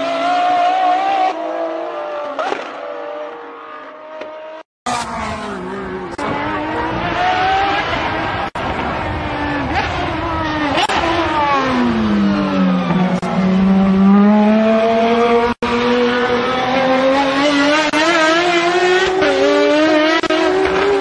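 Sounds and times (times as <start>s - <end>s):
race car engines accelerating: 0.0s - 21.0s.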